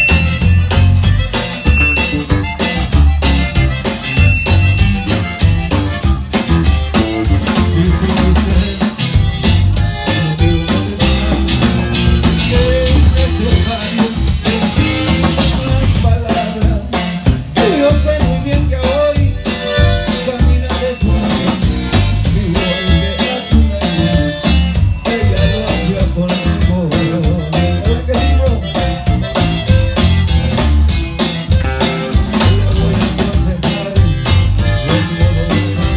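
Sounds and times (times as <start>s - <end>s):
bass line: 0.0s - 35.9s
drum kit beat: 0.0s - 35.9s.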